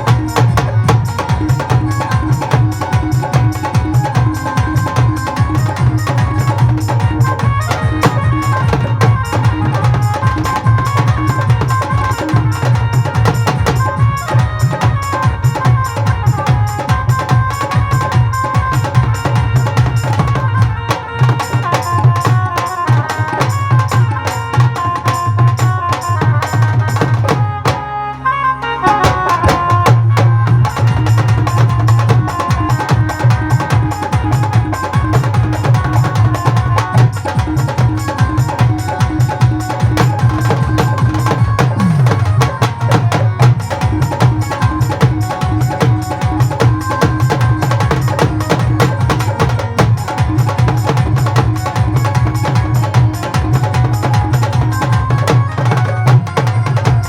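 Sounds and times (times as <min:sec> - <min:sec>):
fast drum and percussion rhythm: 0:00.0 - 0:27.9, 0:28.8 - 0:57.0
held melody line: 0:00.0 - 0:57.0
live band playing instrumental: 0:00.0 - 0:57.0.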